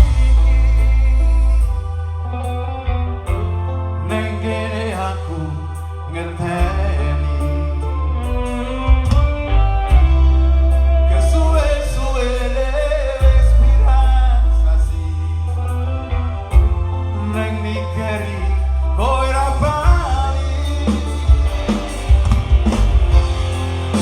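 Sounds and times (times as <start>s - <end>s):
heavy deep bass notes: 0.0s - 24.0s
song with singing and guitar: 0.0s - 24.0s.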